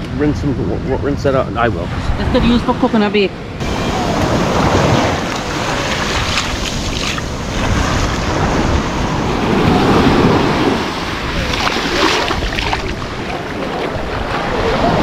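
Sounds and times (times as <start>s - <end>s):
wind buffeting microphone: 0.0s - 15.0s
surf washing on beach: 0.6s - 15.0s.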